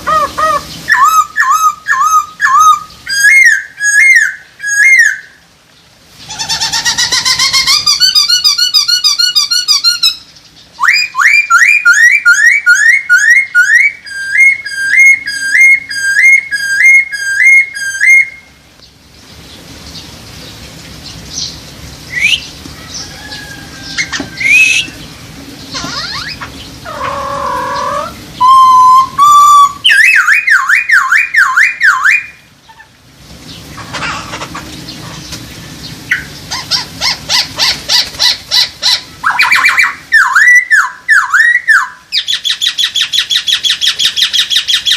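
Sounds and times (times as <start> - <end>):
laughingthrush singing: 0.0 - 5.4, 6.2 - 18.4, 21.8 - 33.0, 33.6 - 44.9.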